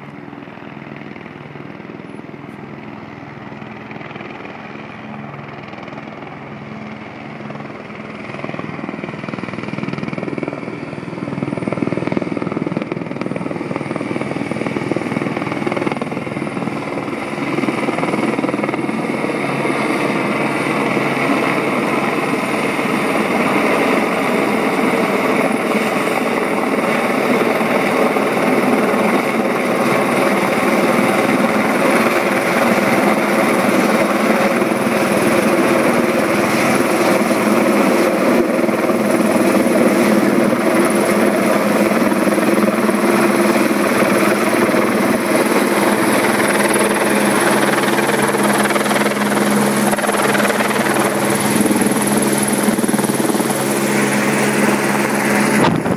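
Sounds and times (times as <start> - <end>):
helicopter hovering: 0.0 - 55.9.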